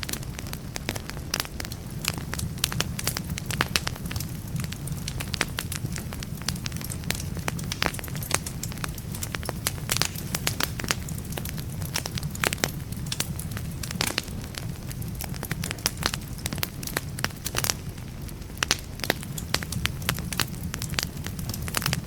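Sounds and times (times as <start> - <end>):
burning logs rumbling: 0.0 - 22.0
fire popping and snapping: 0.0 - 22.0.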